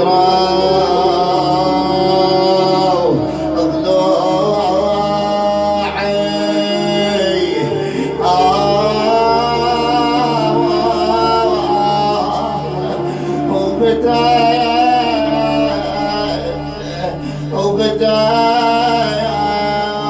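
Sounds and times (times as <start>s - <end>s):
man singing a mournful lament: 0.0s - 20.0s
steady low drone: 0.0s - 20.0s.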